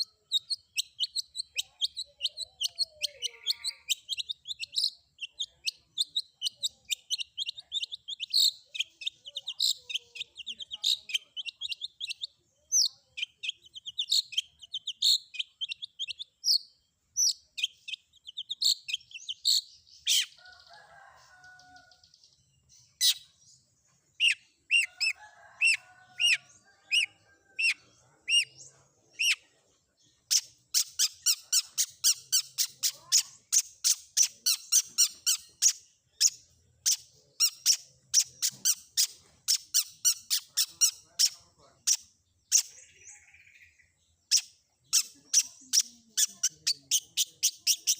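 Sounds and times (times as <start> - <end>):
recorded songbird chips and whistles: 0.0 - 47.9.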